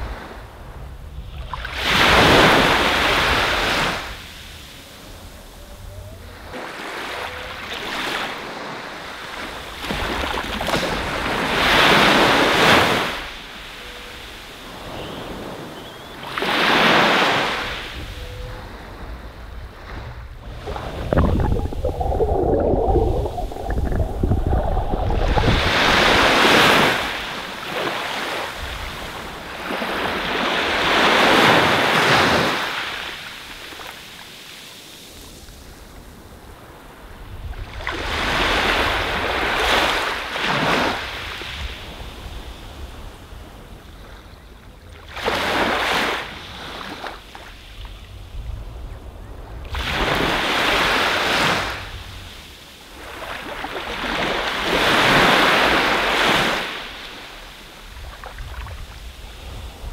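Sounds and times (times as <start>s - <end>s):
wind rumble on microphone: 0.0s - 32.6s, 35.2s - 59.9s
small waves washing over sand: 0.0s - 48.8s, 49.6s - 59.9s.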